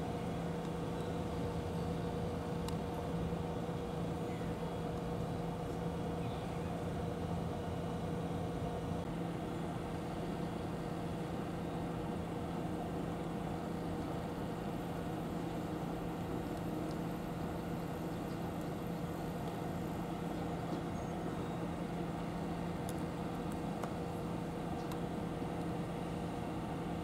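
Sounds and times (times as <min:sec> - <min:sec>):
mechanical hum: 0:00.0 - 0:27.0.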